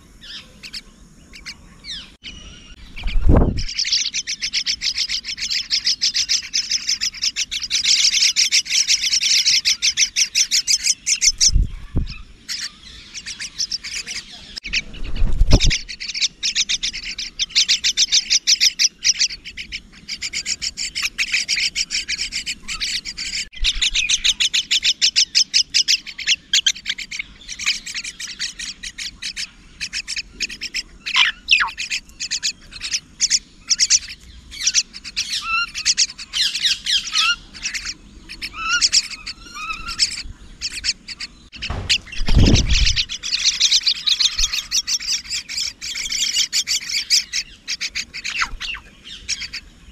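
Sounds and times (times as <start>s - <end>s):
mynas chirping: 0.0s - 49.9s.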